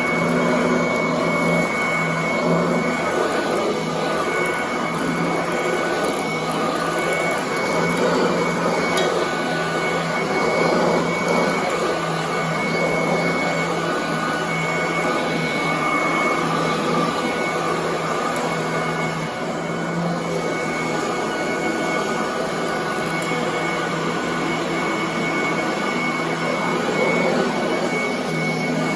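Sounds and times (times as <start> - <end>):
vacuum cleaner running: 0.0 - 28.9.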